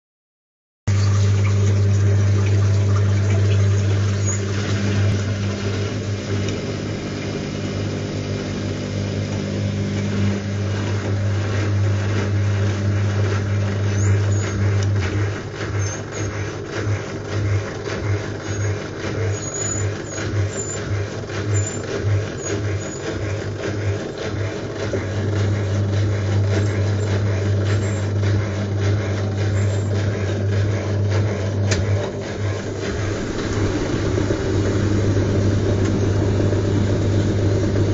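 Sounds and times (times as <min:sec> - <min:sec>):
washing machine motor hum: 0:00.9 - 0:37.9
water churning in drum: 0:00.9 - 0:37.9.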